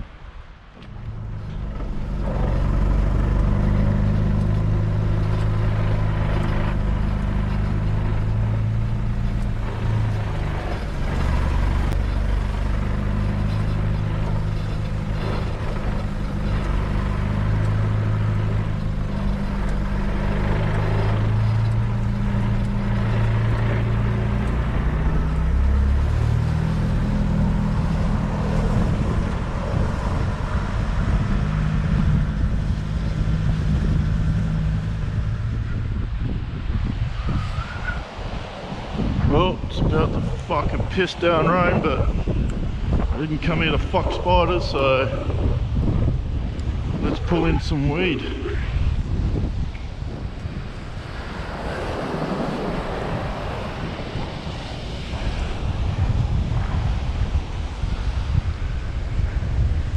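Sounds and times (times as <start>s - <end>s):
vehicle engine driving: 0.0s - 59.9s.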